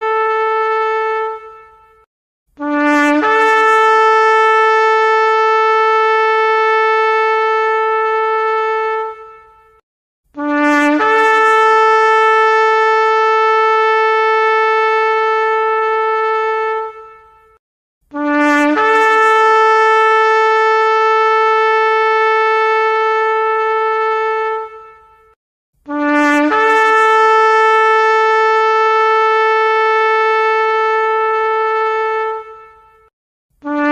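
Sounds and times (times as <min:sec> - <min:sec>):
loud two-tone horn blasts: 0:00.0 - 0:09.8, 0:10.4 - 0:33.9.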